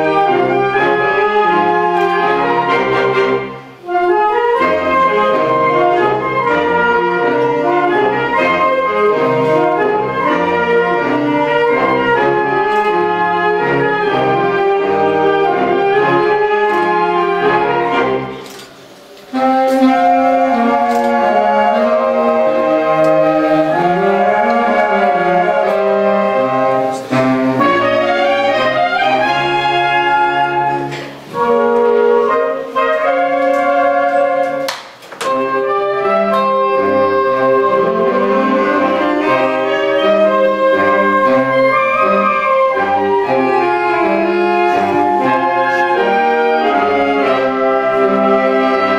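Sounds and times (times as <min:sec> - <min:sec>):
concert wind band playing: 0:00.0 - 0:48.9.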